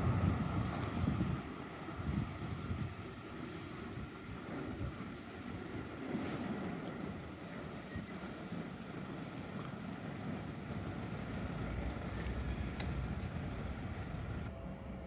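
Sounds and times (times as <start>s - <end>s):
street traffic rumble: 0.0s - 15.0s
tram pulling away: 0.0s - 15.0s.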